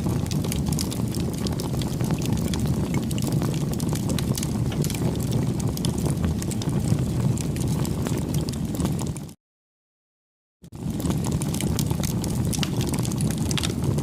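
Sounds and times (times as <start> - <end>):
burning wood crackling: 0.0 - 9.4, 10.7 - 14.0
low rumble of flames: 0.0 - 9.4, 10.7 - 14.0.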